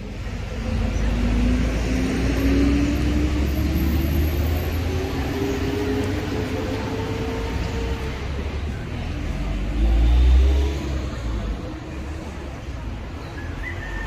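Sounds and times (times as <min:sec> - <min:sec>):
vehicle engine accelerating: 0:00.2 - 0:12.0.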